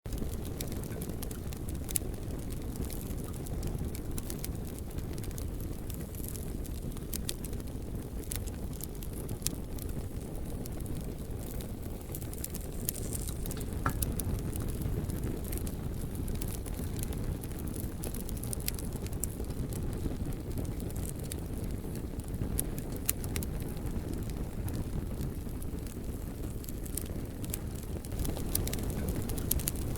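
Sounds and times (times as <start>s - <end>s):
fire burning in fireplace: 0.1s - 29.9s
logs crackling and popping: 0.1s - 29.9s.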